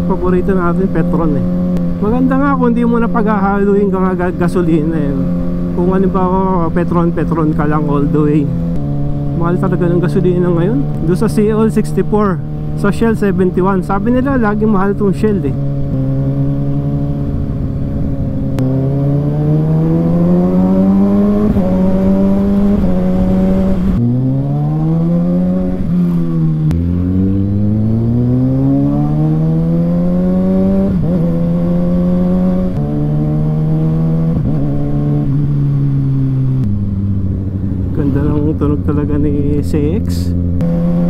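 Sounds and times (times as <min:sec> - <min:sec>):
motorcycle engine revving through gears: 0:00.0 - 0:41.0.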